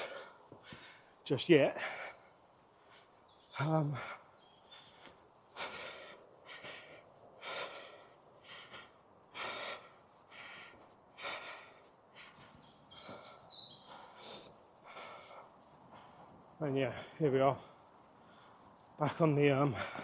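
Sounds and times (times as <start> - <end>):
man breathing hard: 0.0 - 20.0.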